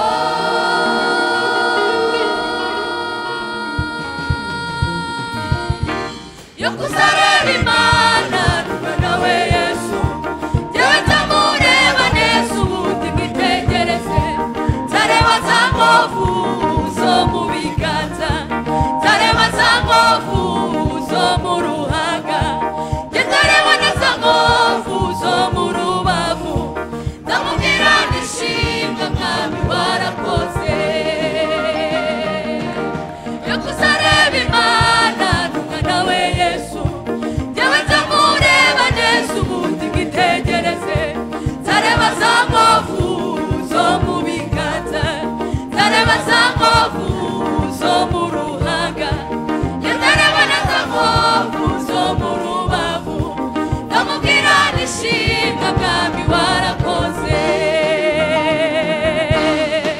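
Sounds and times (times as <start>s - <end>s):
backing music: 0.0s - 59.9s
voices singing gospel: 0.0s - 59.9s.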